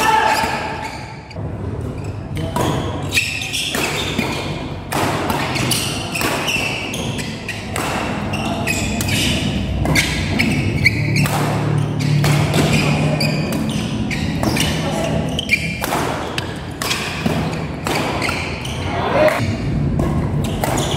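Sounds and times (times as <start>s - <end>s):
racket hitting shuttlecock: 2.6s - 18.7s, 19.3s - 20.9s.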